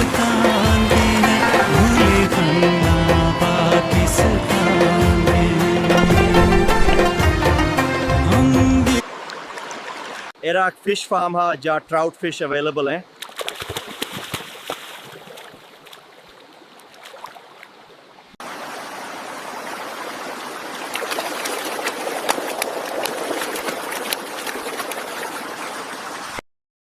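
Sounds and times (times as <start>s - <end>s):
running water splashing: 0.0s - 8.0s, 9.0s - 10.4s, 13.1s - 26.4s.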